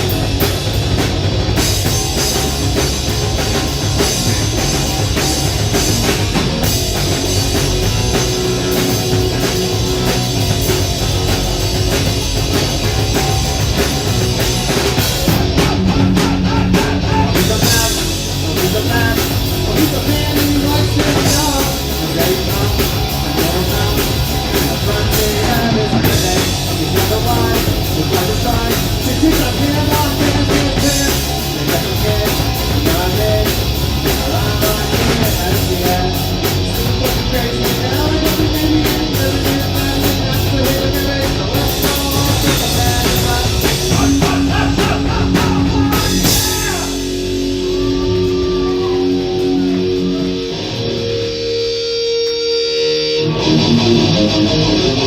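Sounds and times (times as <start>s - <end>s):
drum kit: 0.0s - 55.0s
live rock band playing: 0.0s - 55.0s.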